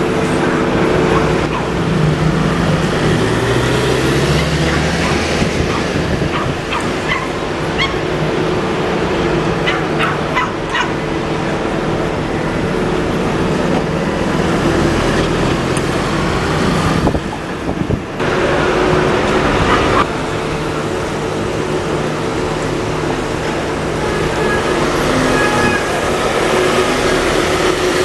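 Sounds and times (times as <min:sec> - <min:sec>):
bus diesel engines running: 0:00.0 - 0:28.0.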